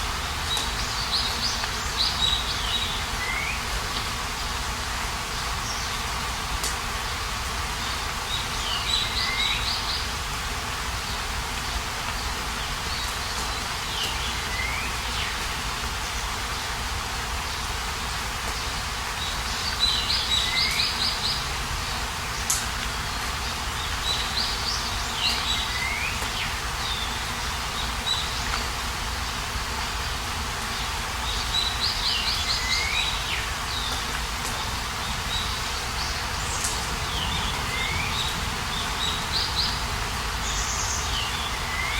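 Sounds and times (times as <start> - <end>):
steady outdoor hiss: 0.0 - 41.9
songbird singing: 0.4 - 4.1, 7.8 - 10.2, 11.1 - 16.7, 18.5 - 41.9.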